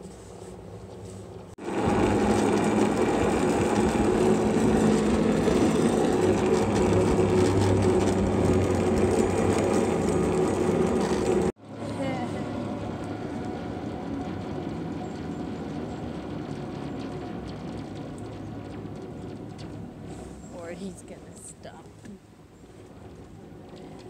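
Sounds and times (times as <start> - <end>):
cable car pulleys whirring: 1.6 - 24.0.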